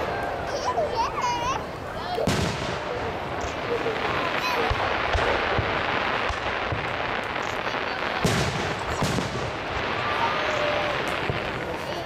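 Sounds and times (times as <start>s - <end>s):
fireworks booming: 0.0s - 12.0s
smaller fireworks reports: 0.0s - 12.0s
steady background noise: 0.0s - 12.0s.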